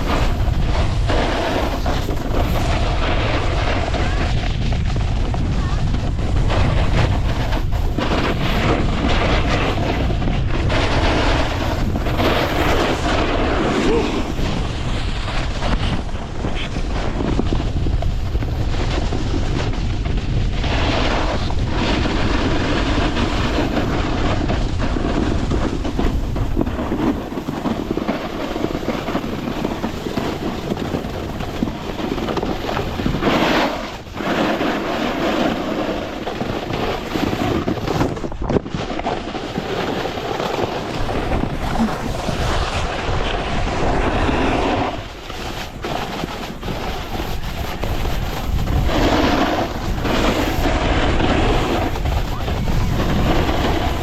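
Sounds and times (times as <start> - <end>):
snowboard scraping snow: 0.0 - 54.0
wind rushing over microphone: 0.0 - 54.0.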